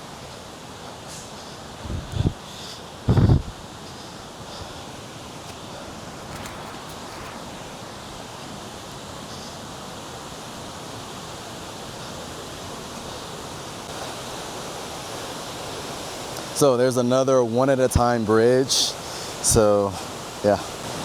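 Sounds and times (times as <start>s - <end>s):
river and waterfall rushing: 0.0s - 21.0s.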